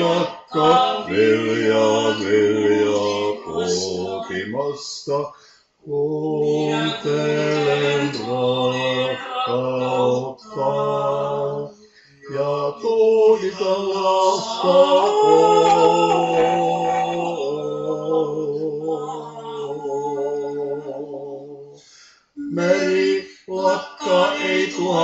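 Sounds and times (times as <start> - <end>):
male vocal quartet singing: 0.0 - 21.8, 22.4 - 25.0.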